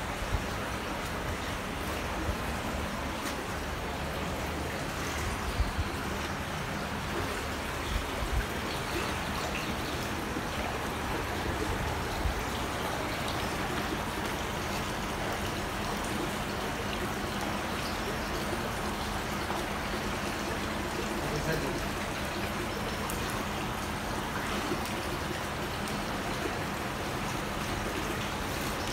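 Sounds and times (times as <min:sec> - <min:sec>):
running trickling water: 0:00.0 - 0:28.9.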